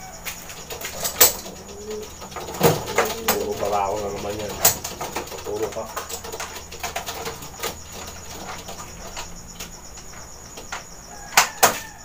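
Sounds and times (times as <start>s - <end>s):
crickets chirping: 0.0s - 12.0s
metal box rattling and clicking: 0.4s - 10.9s.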